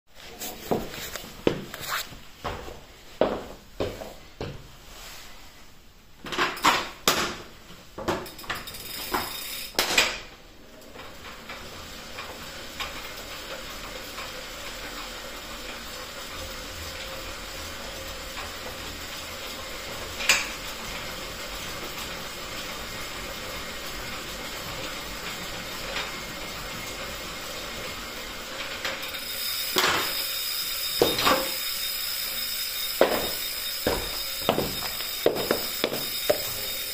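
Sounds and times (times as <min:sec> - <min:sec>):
bike trainer whirring: 0:06.2 - 0:36.9.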